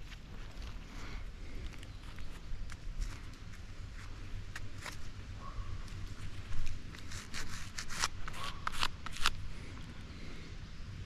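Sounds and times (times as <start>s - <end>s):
digging crunches and scrapes in soil: 0.0s - 10.1s.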